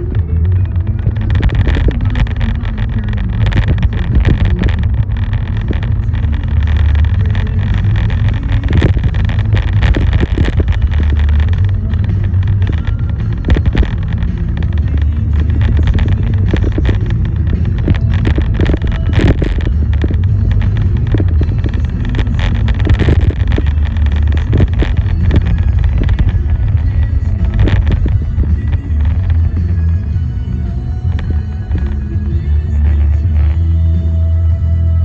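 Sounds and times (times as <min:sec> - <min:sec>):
short crackles: 0:00.0 - 0:34.6
car road and engine rumble: 0:00.0 - 0:35.0.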